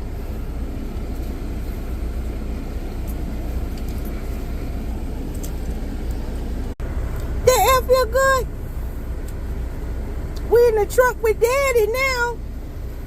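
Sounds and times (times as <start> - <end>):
road noise: 0.0 - 13.0
truck engine rumble: 0.0 - 13.0.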